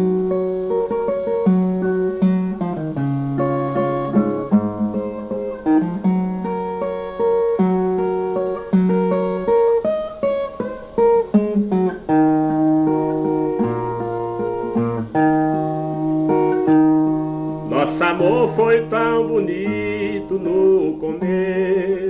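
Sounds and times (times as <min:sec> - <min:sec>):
steel-strung guitar plucked melody: 0:00.0 - 0:22.0.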